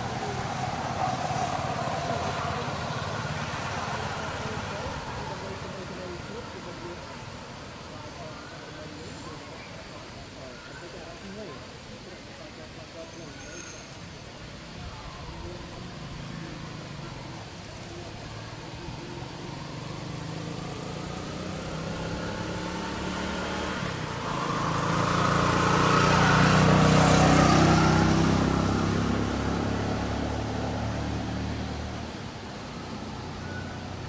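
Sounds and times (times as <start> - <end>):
vehicle passing on road: 0.0 - 10.2, 12.6 - 34.0.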